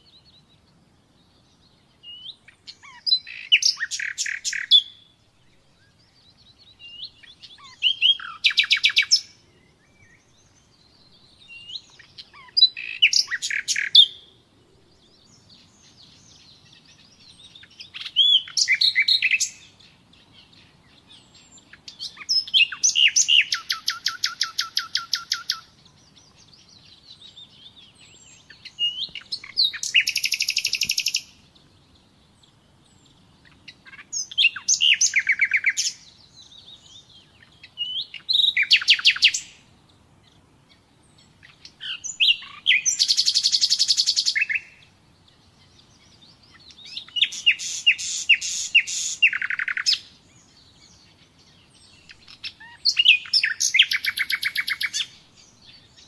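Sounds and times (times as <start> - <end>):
faint bird twittering: 0.0 - 56.0
nightingale singing: 0.0 - 56.0.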